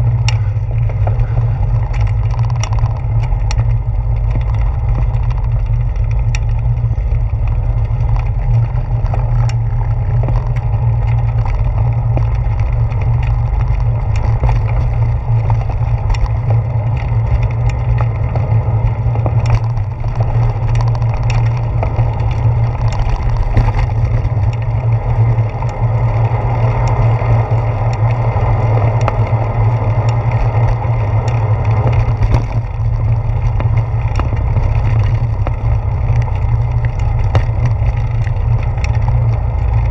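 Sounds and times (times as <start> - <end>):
bicycle rumbling over boardwalk: 0.0 - 39.9
wind on microphone: 0.0 - 39.9.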